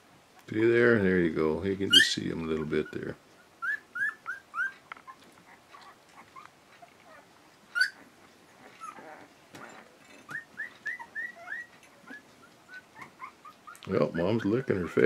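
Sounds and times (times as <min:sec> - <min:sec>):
puppies squeaking and whimpering: 0:01.8 - 0:15.0.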